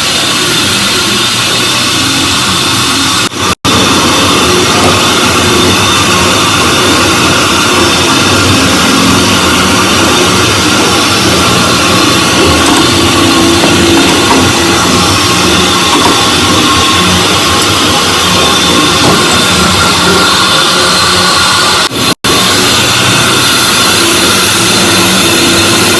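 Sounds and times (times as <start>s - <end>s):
dense machine-like noise: 0.0s - 25.9s.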